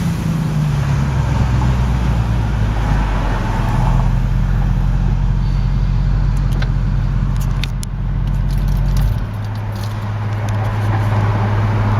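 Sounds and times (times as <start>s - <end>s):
loud deep car engine drone: 0.0s - 11.9s.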